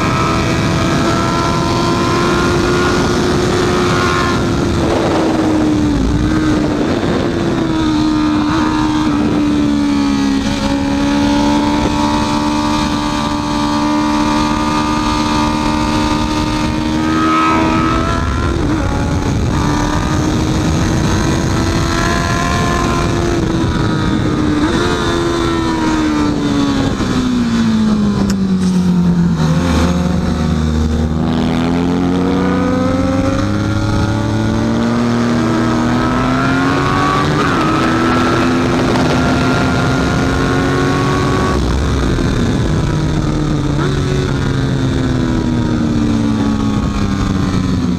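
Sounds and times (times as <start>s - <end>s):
constant rush of noise: 0.0s - 47.9s
motorcycle engine at high revs: 0.0s - 47.9s.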